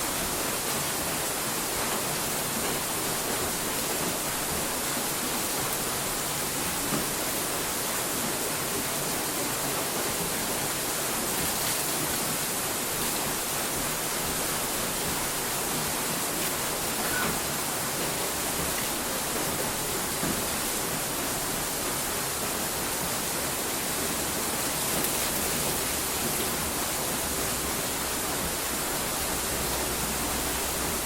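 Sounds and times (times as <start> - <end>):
steady static hiss: 0.0 - 31.0.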